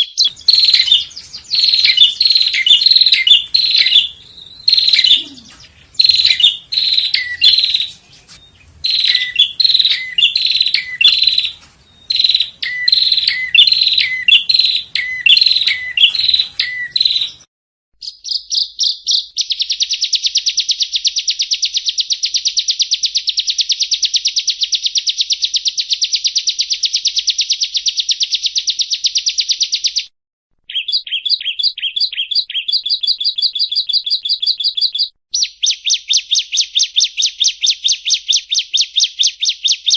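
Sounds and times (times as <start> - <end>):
bird fast trill: 0.0 - 30.1, 30.7 - 39.9
bird sharp chirps: 0.0 - 30.1, 30.7 - 39.9.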